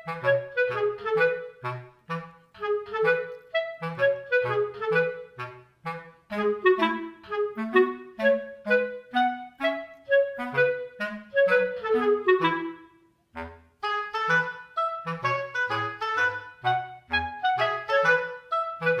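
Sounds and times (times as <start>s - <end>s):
light bouncy melody: 0.0s - 19.0s.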